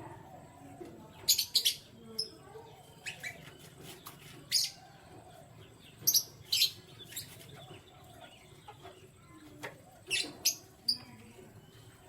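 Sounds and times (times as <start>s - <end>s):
canary chirping: 1.2s - 5.0s, 5.6s - 12.0s.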